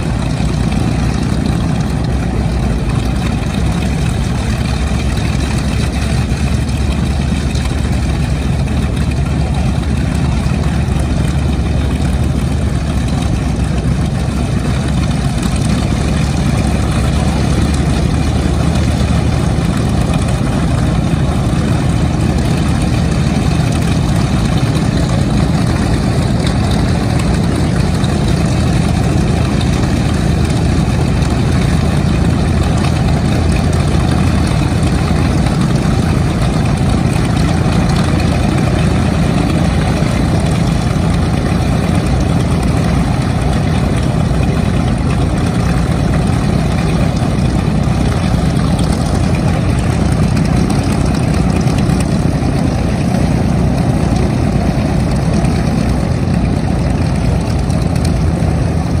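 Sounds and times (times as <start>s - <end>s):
piston engines idling: 0.0s - 59.0s.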